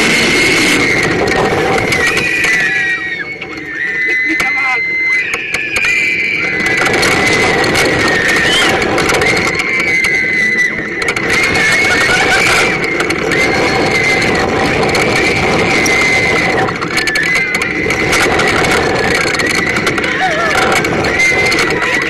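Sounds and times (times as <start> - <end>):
coaster train rattling on track: 0.0 - 22.0
high wavering squeal: 0.0 - 22.0
rushing wind: 0.0 - 22.0.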